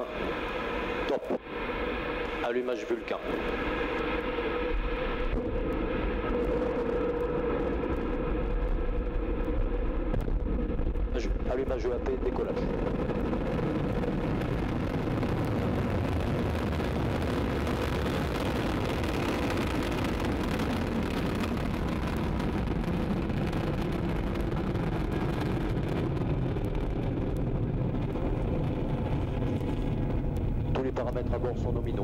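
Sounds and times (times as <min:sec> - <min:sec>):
rocket engines deep rushing: 0:00.0 - 0:32.0.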